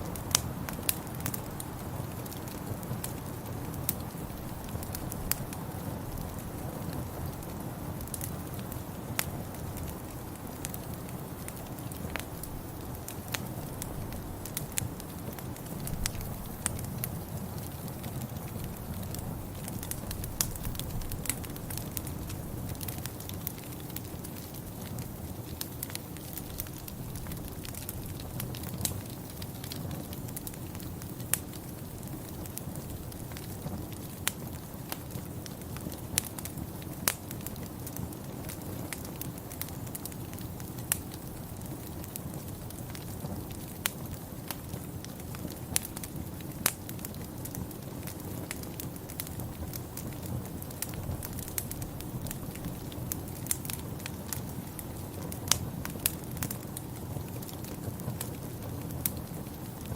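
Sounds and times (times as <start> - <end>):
sharp pops from fire: 0.0 - 59.9
wood fire crackling: 0.0 - 59.9.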